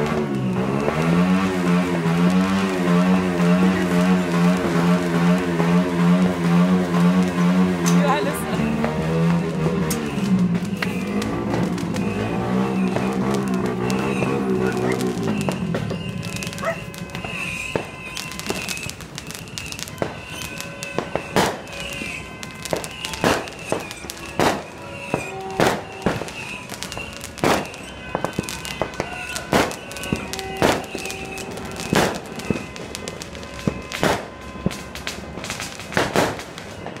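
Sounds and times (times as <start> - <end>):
fireworks and firecrackers banging: 0.0 - 37.0.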